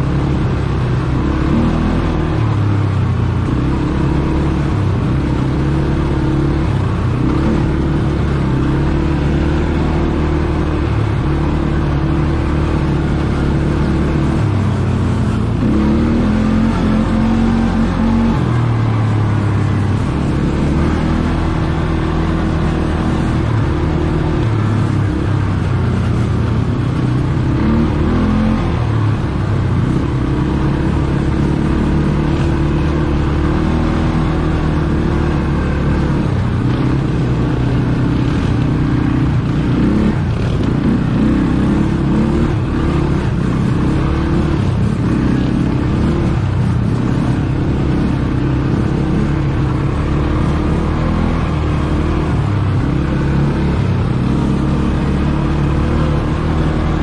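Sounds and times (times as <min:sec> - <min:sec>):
atv engine running: 0:00.0 - 0:57.0
steady rushing noise: 0:00.0 - 0:57.0.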